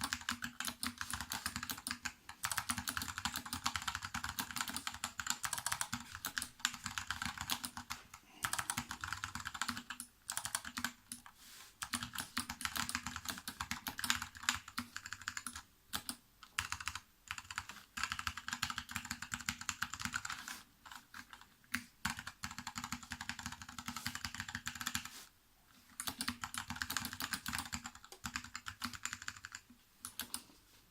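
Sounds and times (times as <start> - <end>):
mechanical keyboard typing: 0.0 - 25.1, 26.0 - 30.5.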